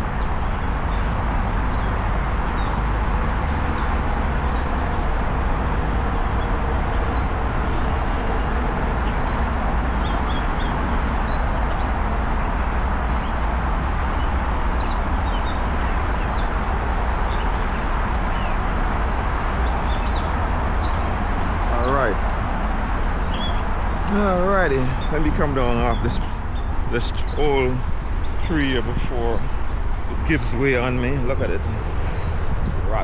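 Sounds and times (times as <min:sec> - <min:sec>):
low rumbling background noise: 0:00.0 - 0:33.0
wild birds chirping: 0:00.0 - 0:33.0.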